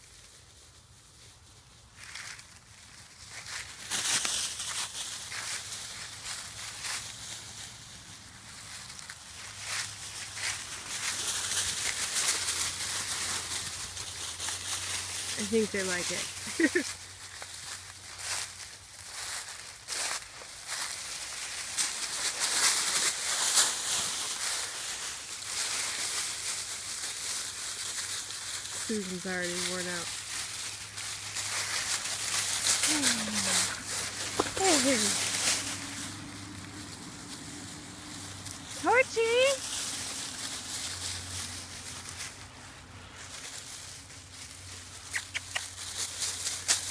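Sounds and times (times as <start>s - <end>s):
dry leaves crunching under paws: 0.0s - 46.9s.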